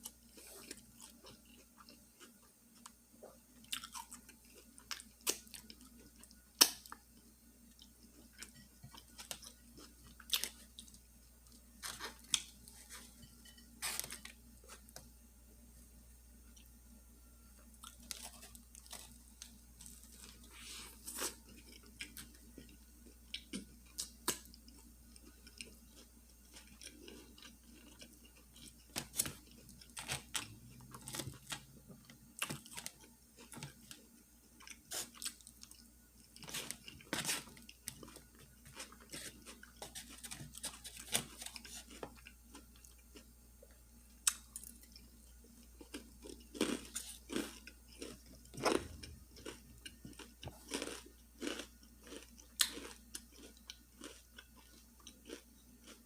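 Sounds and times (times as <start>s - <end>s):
chewing and crunching food: 0.0s - 15.1s, 17.6s - 56.0s.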